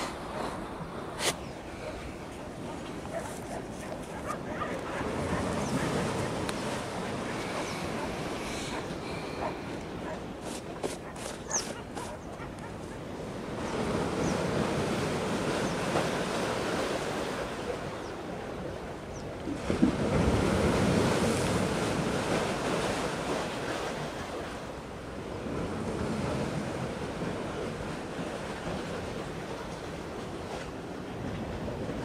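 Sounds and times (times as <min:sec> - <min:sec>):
sea waves washing in: 0:00.0 - 0:32.0.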